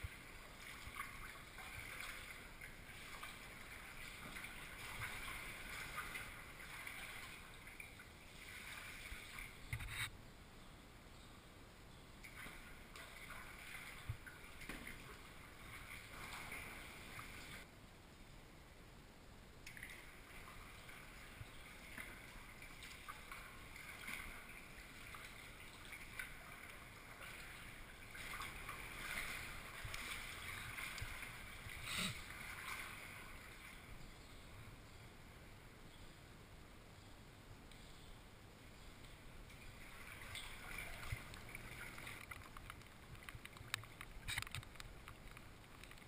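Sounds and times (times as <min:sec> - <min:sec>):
paddle splashing water: 0:00.0 - 0:10.1, 0:12.2 - 0:17.7, 0:19.7 - 0:34.0, 0:38.9 - 0:46.0.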